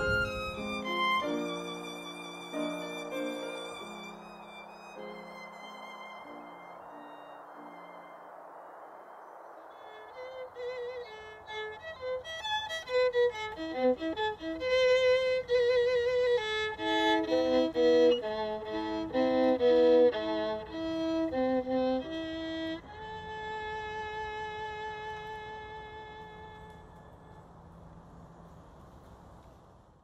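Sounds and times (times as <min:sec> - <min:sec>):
solo violin melody: 0:00.0 - 0:08.6, 0:09.8 - 0:27.6.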